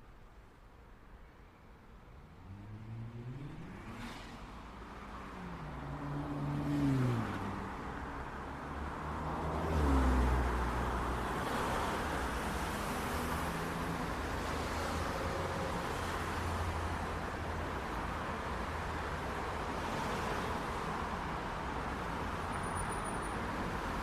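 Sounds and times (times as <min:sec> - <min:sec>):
cars driving past: 0:02.2 - 0:24.0.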